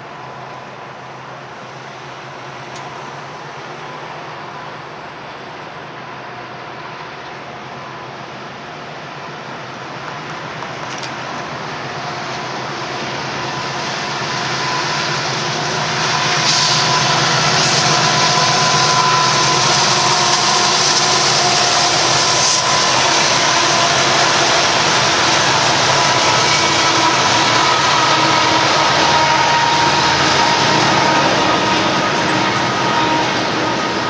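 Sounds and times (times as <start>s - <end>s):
freight train passing: 0.0s - 34.0s.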